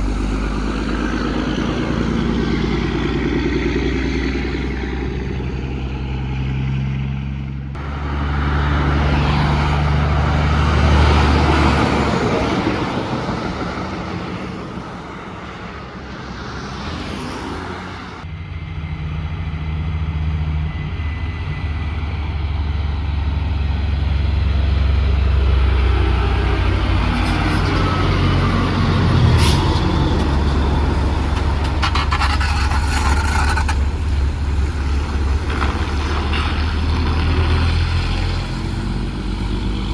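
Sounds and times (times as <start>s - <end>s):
diesel trucks passing: 0.0s - 39.9s.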